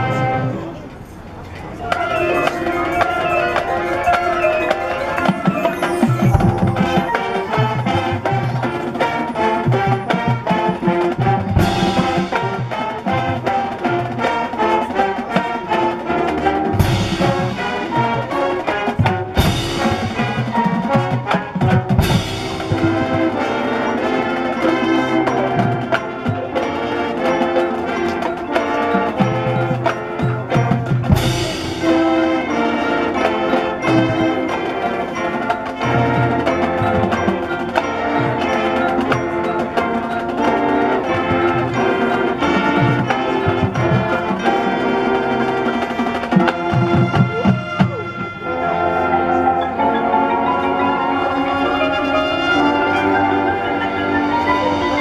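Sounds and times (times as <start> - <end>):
marching band playing: 0.0 - 55.0
loud accented band hits: 1.8 - 55.0.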